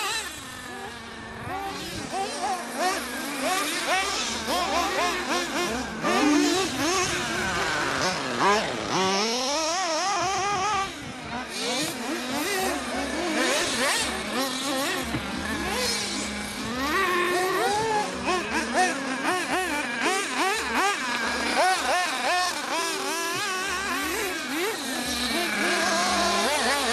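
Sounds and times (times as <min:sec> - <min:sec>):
model car engines whining: 0:00.0 - 0:26.9.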